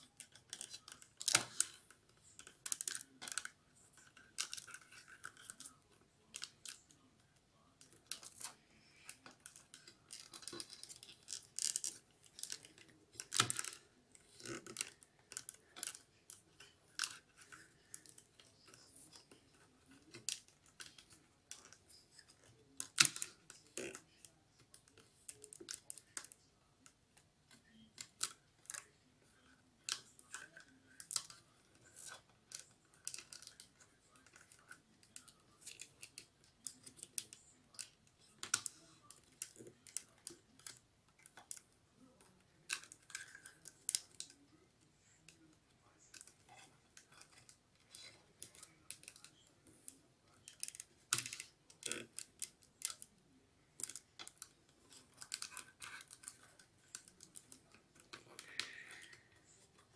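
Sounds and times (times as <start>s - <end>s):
newspaper tubes rubbing and clicking: 0.0s - 59.9s.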